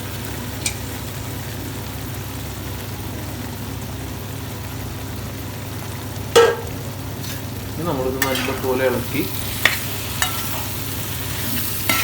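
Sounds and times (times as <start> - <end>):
stove hissing under a pan: 0.0 - 12.0.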